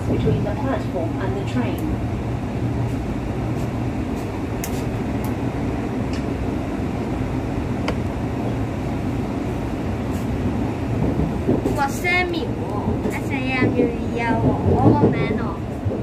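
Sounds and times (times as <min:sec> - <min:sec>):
electric train running rumble: 0:00.0 - 0:16.0.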